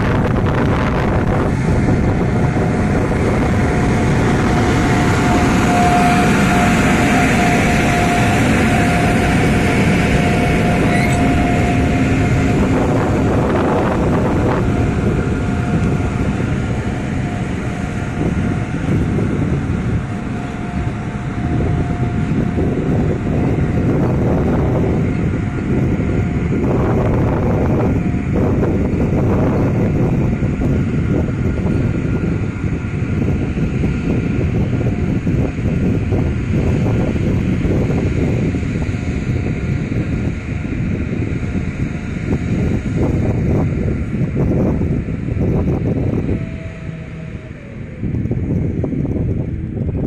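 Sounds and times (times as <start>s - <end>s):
electric locomotive whine: 0.0s - 50.0s
train wheels rumbling and clattering: 0.0s - 50.0s
wind buffeting microphone: 0.0s - 50.0s.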